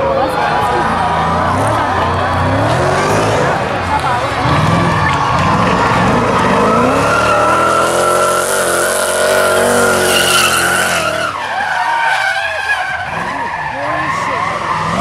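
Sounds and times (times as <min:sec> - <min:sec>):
car engine revving: 0:00.0 - 0:15.0
tyres skidding and squealing: 0:00.0 - 0:15.0.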